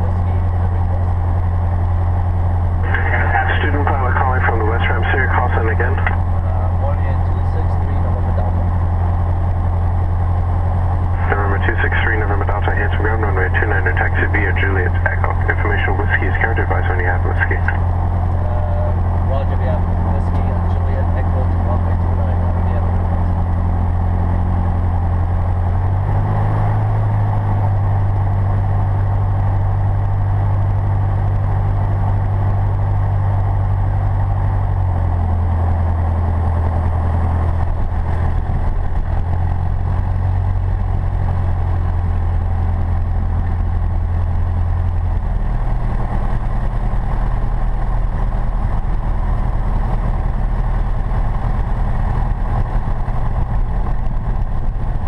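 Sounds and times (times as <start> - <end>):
propeller airplane engine running: 0.0 - 55.0.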